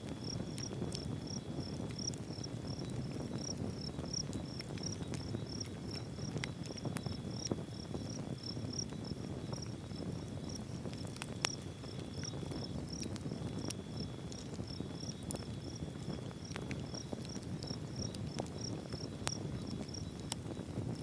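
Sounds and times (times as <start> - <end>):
insects chirping: 0.1 - 20.7.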